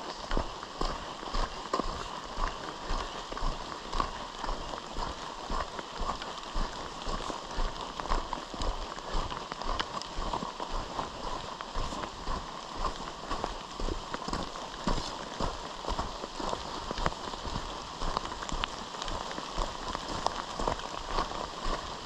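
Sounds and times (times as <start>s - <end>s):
footsteps on a road: 0.0s - 22.0s
rain hiss: 0.0s - 22.0s.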